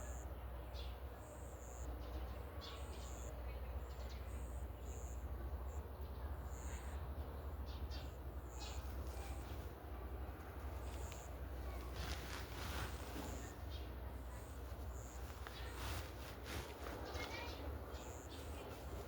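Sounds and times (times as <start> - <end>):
steady low rumble: 3.4 - 19.0.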